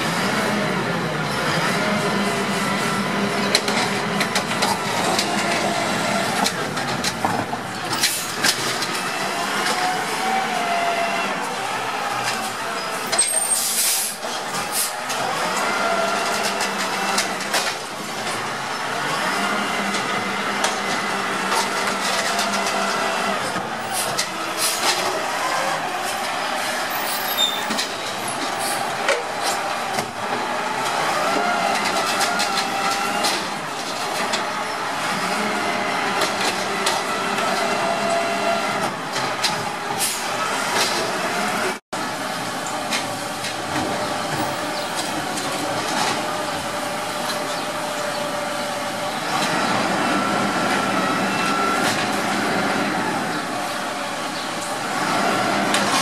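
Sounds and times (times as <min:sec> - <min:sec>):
diesel engine running: 0:00.0 - 0:56.0
carts clanking against hopper: 0:03.2 - 0:56.0.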